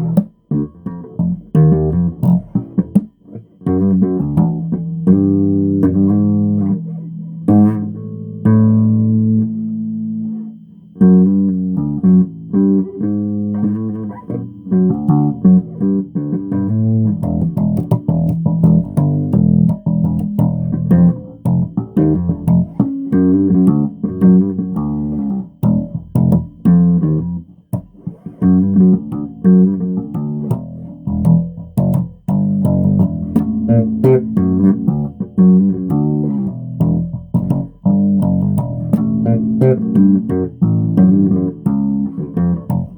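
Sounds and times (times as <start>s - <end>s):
bass guitar plucked notes: 0.0s - 42.9s.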